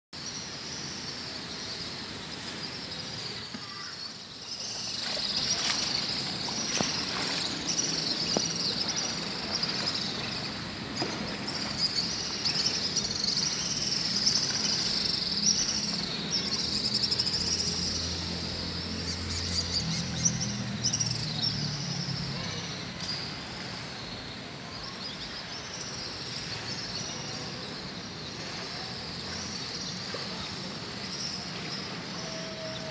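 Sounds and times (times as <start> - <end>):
flowing river water: 0.2 - 32.9.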